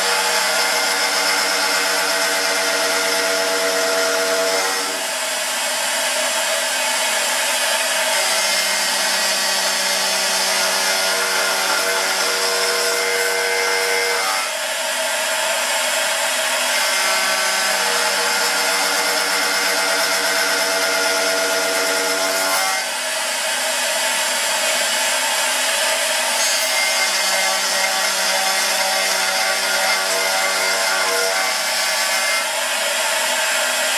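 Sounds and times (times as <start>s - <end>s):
end mill cutting metal: 0.0s - 33.9s.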